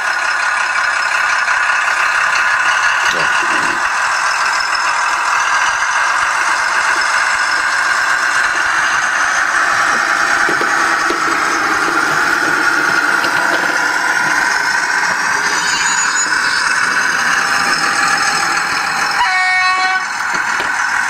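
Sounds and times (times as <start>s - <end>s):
model locomotive diesel engine sound: 0.0s - 21.0s.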